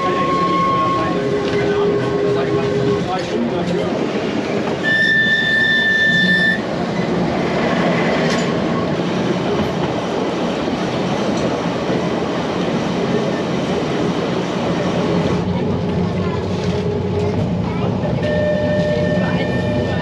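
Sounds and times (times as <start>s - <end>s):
tram running on track: 0.0s - 20.0s.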